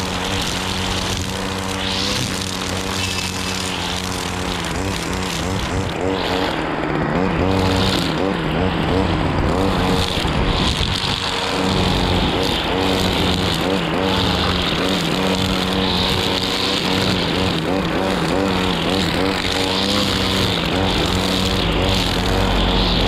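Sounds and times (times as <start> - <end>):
string trimmer cutting grass: 0.0 - 23.0.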